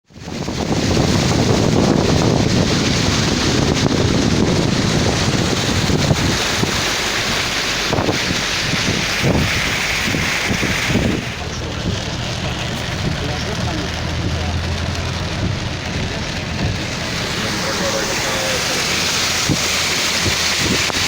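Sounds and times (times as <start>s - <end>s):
torrential rain hissing: 0.2s - 21.0s
wind buffeting microphone: 0.2s - 21.0s.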